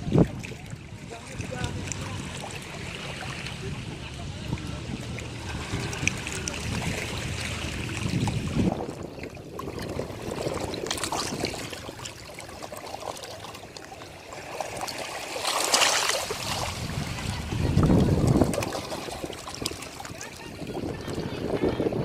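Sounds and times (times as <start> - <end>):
ocean waves washing up beach: 0.0 - 22.0.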